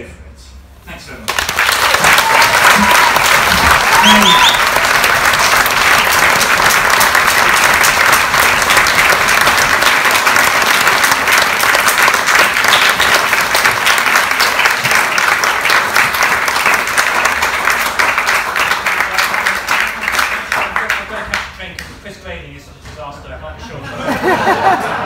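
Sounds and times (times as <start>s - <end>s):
audience applauding: 1.3s - 21.5s.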